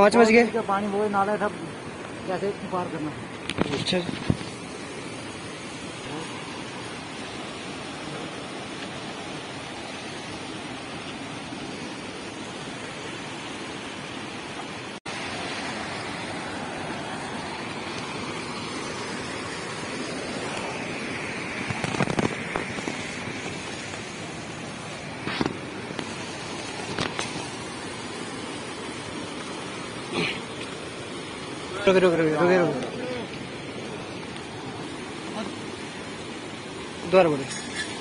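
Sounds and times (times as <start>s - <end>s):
stream rushing over boulders: 0.0s - 38.0s.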